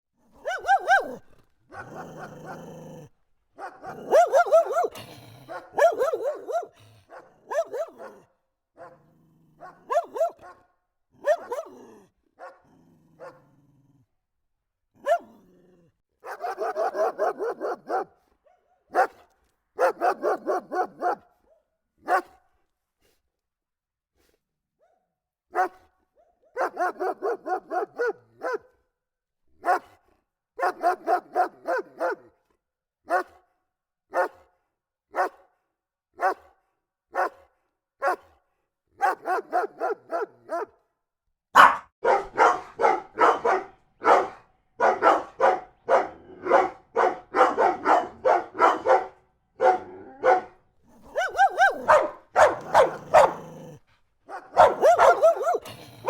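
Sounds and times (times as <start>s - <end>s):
dog barking: 0.4s - 2.7s, 3.6s - 13.5s, 15.0s - 15.4s, 16.2s - 22.4s, 24.8s - 28.8s, 29.6s - 30.0s, 30.6s - 32.4s, 33.1s - 33.5s, 34.1s - 35.6s, 36.2s - 38.4s, 39.0s - 40.8s, 41.5s - 56.0s.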